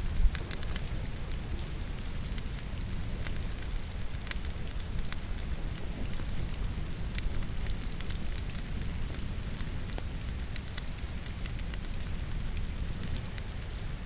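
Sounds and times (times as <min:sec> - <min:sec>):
logs crackling in fireplace: 0:00.0 - 0:14.0
rainfall: 0:00.0 - 0:14.0.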